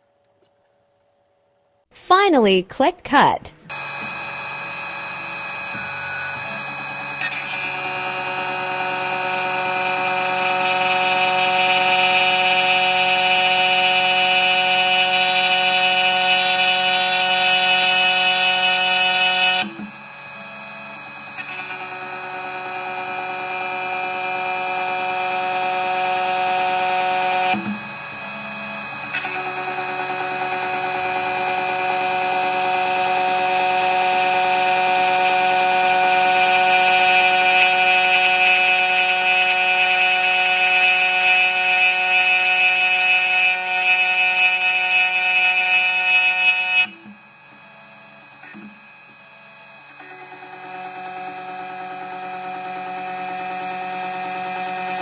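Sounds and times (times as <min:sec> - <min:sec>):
key cutting machine whining: 0:03.7 - 0:55.0.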